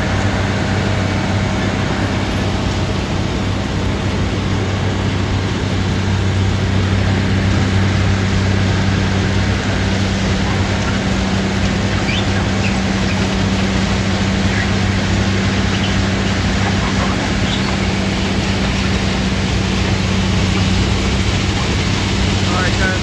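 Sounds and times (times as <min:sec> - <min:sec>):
diesel engine drone: 0:00.0 - 0:23.0
wheels rumbling on track: 0:00.0 - 0:23.0.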